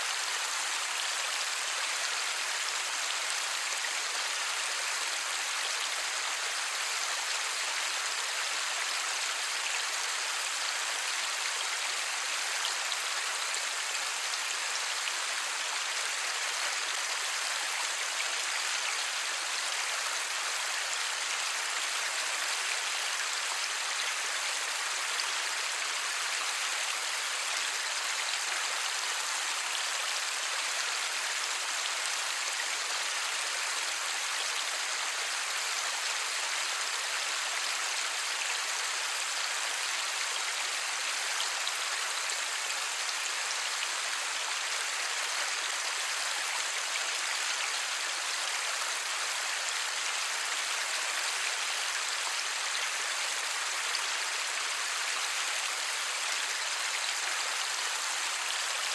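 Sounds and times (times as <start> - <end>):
light rain falling: 0.0 - 58.9.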